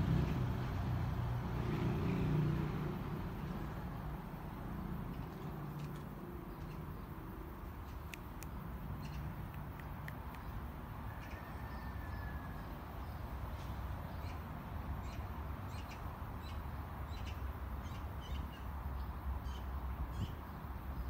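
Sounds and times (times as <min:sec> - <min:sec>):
small birds chirping: 0:02.0 - 0:11.9, 0:12.9 - 0:21.0.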